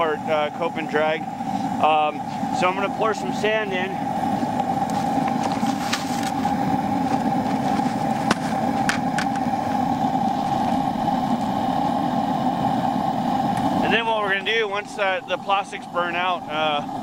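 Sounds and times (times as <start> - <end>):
burner furnace rushing: 0.0 - 17.0.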